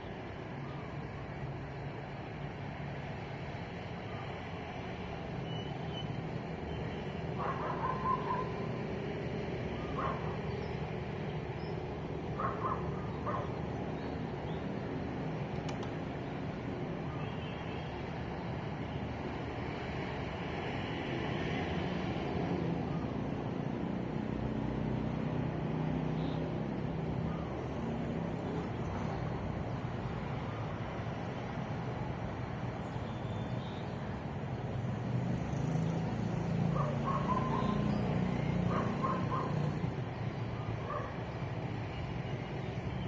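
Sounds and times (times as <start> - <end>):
road traffic rumble: 0.0 - 43.0.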